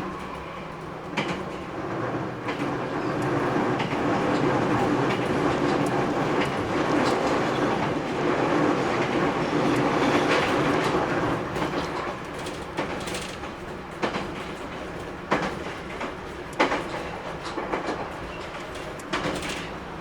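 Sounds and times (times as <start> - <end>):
rail joint clacks: 0.0 - 20.0
train wheels rumbling on rails: 0.0 - 20.0.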